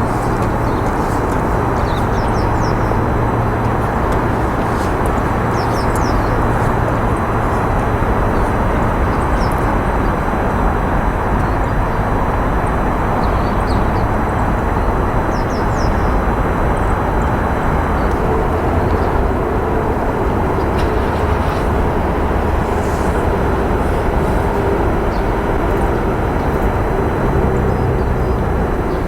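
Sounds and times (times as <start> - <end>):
rushing outdoor background noise: 0.0 - 29.0.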